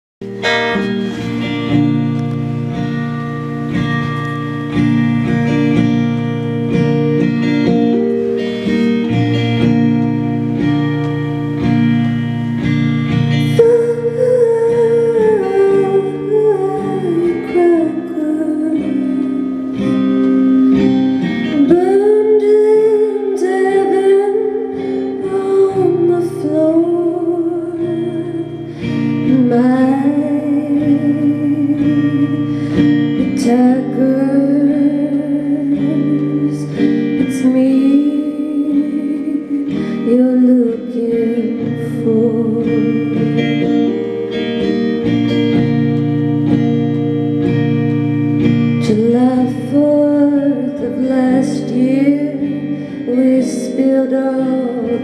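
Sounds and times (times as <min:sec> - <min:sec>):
guitar picking ringing chords: 0:00.2 - 0:55.0.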